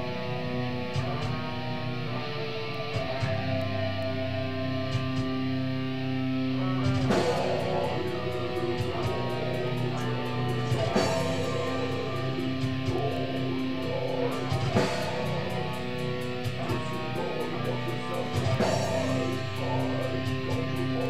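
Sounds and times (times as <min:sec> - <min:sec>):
distorted electric guitar chords: 0:00.0 - 0:21.0
drums: 0:00.0 - 0:21.0.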